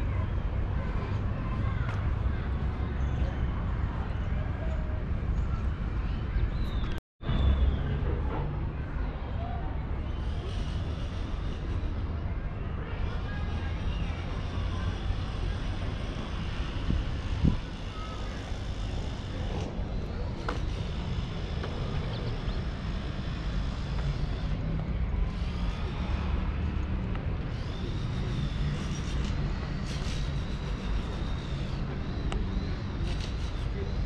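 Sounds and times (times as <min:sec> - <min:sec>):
traffic rumble: 0:00.0 - 0:34.0.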